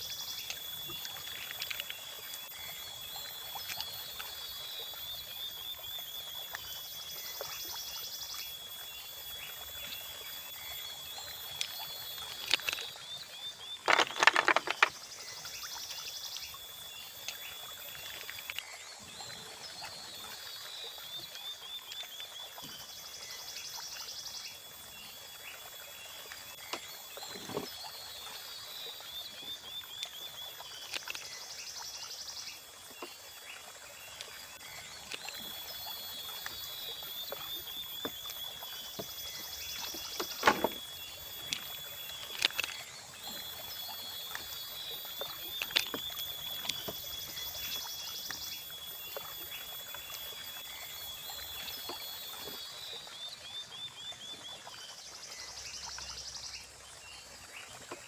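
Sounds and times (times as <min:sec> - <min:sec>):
insect chirps and trills: 0:00.0 - 0:58.0
insect high whine: 0:00.0 - 0:58.0.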